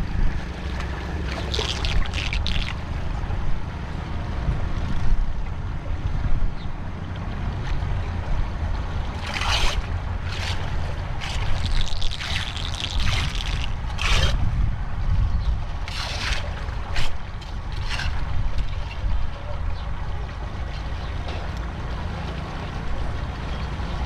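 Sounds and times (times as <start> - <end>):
floodwater splashing and sloshing: 0.0 - 4.4, 7.0 - 24.0
steady low rumble: 0.0 - 23.5.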